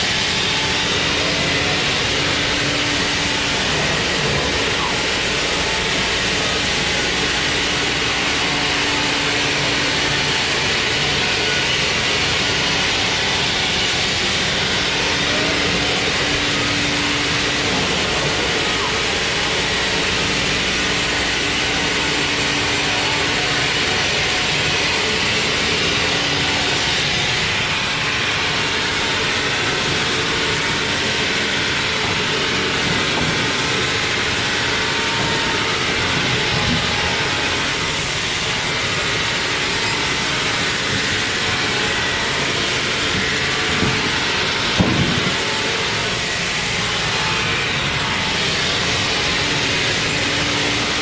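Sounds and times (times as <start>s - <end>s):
sawmill machinery running: 0.0s - 51.0s.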